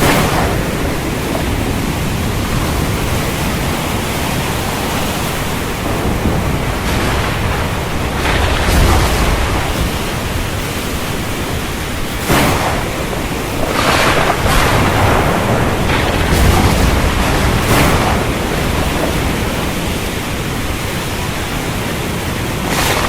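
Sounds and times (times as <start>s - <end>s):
sea surf rushing: 0.0s - 23.0s
stormy wind: 0.0s - 23.0s.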